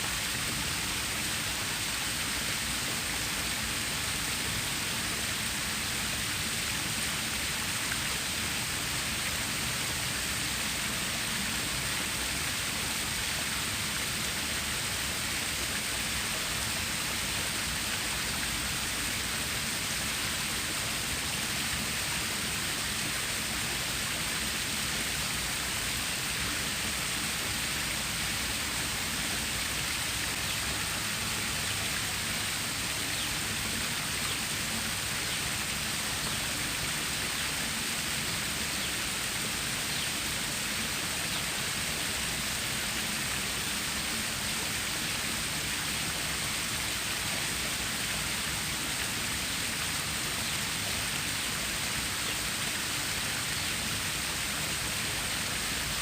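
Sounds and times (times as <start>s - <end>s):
water stream rushing: 0.0s - 56.0s.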